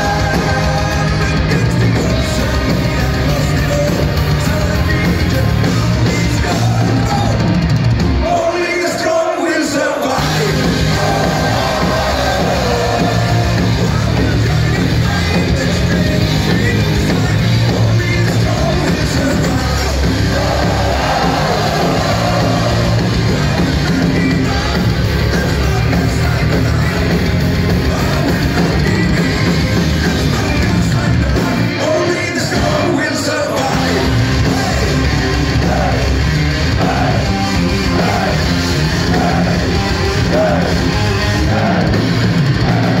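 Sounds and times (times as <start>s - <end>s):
man singing: 0.0s - 7.5s, 8.2s - 36.2s, 36.8s - 43.0s
live metal band through pa: 0.0s - 43.0s.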